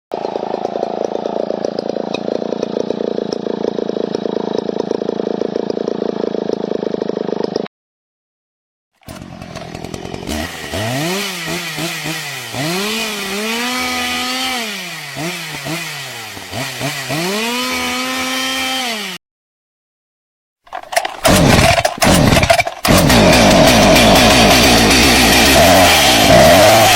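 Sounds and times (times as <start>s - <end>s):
chainsaw engine revving: 0.1s - 7.7s, 9.0s - 19.2s, 20.7s - 26.9s
chainsaw running: 0.1s - 7.7s, 9.0s - 19.2s, 20.7s - 26.9s.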